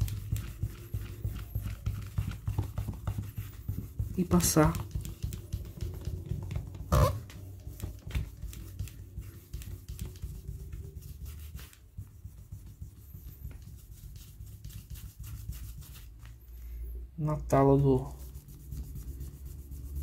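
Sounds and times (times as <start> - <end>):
cloth rubbing strokes: 0.0 - 16.5, 17.8 - 20.0.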